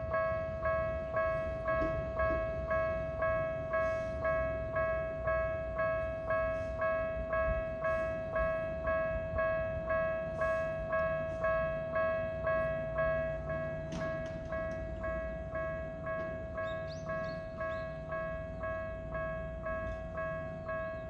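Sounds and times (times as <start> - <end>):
electronic crossing bell ringing: 0.0 - 21.0.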